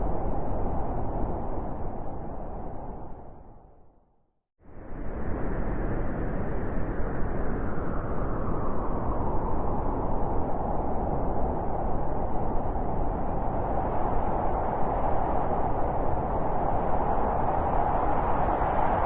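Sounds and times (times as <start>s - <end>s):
blizzard wind howling: 0.0s - 4.0s, 4.6s - 19.0s.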